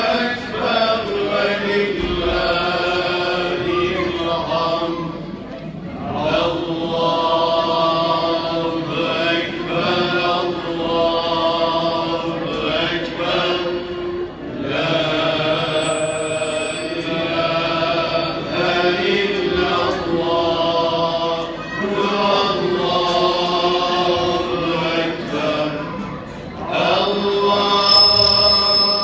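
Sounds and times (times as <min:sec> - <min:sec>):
male choir singing a hymn: 0:00.0 - 0:05.3, 0:05.9 - 0:29.0.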